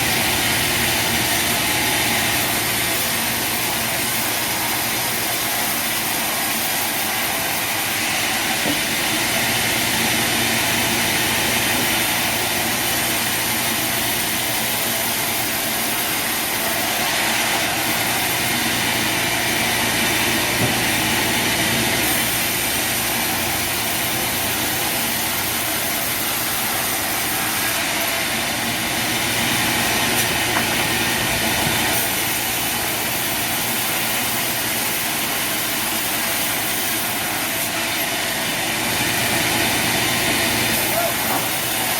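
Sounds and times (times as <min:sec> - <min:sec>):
machinery running: 0:00.0 - 0:41.9.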